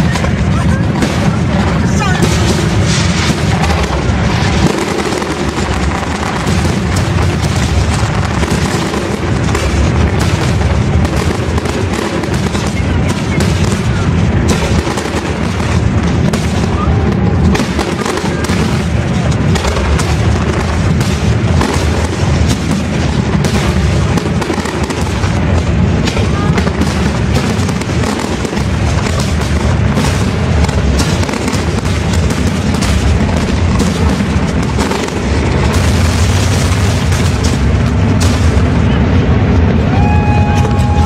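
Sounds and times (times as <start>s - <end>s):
fireworks booming and crackling: 0.0s - 41.0s.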